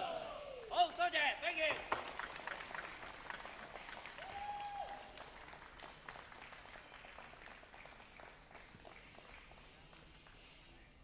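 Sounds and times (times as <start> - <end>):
audience clapping: 0.8 - 10.9.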